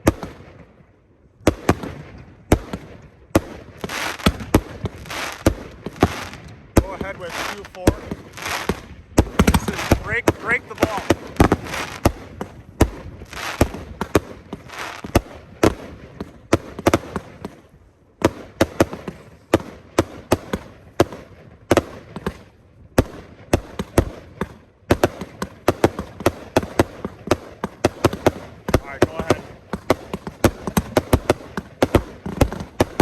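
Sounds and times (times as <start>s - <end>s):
fireworks firing shots: 0.0s - 33.0s.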